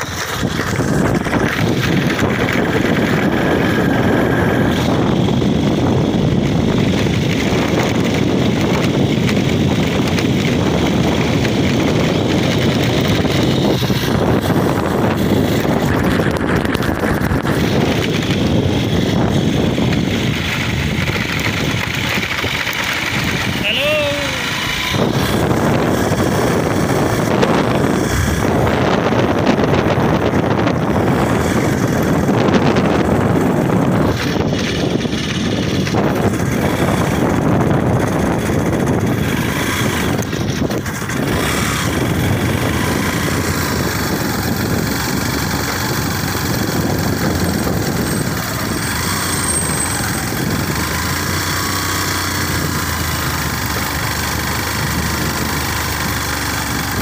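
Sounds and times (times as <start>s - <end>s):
motorcycle engine running: 0.0s - 57.0s
tyre road noise: 0.0s - 57.0s.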